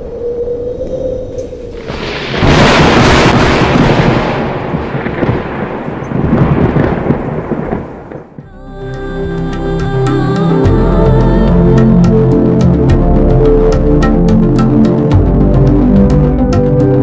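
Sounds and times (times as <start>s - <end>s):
thunder rolling: 0.0s - 17.0s
rain: 1.4s - 17.0s.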